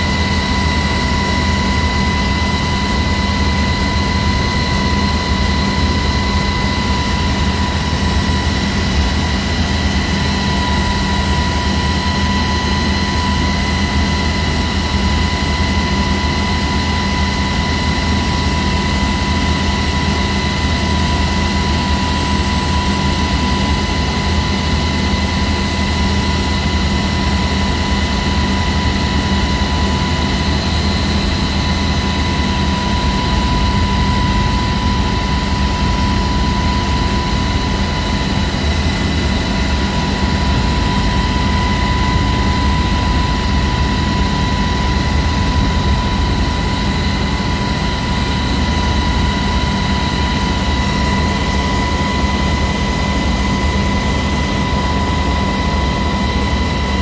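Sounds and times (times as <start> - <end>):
constant high whine: 0.0 - 57.0
helicopter cabin engine and rotor noise: 0.0 - 57.0.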